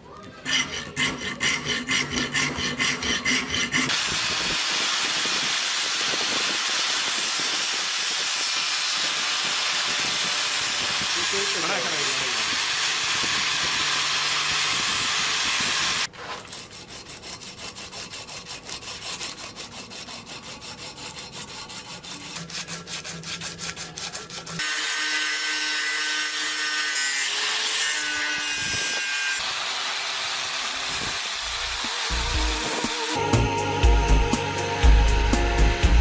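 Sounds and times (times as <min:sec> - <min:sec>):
hand sanding strokes: 0:00.5 - 0:33.3.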